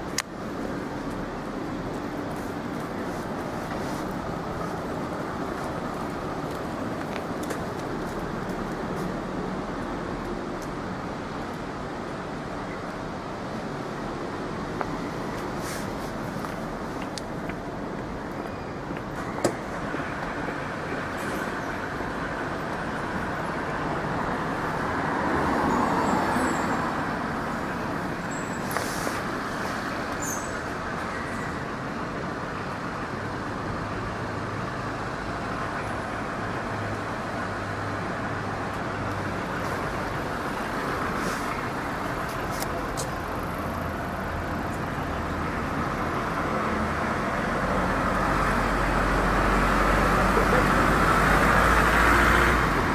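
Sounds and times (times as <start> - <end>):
street traffic: 0.0 - 52.9.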